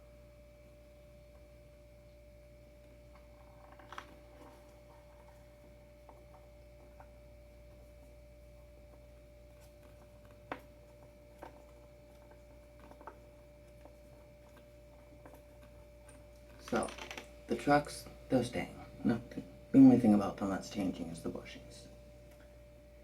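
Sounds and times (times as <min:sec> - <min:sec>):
thin hum: 0:00.0 - 0:23.0.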